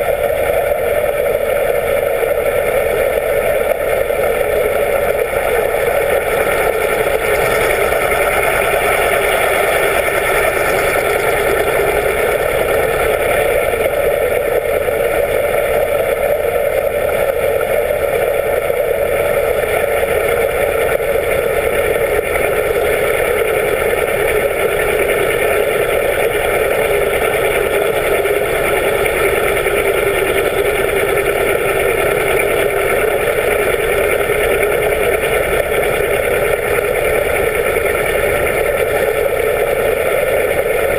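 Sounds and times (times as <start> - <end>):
underwater engine drone: 0.0 - 40.9.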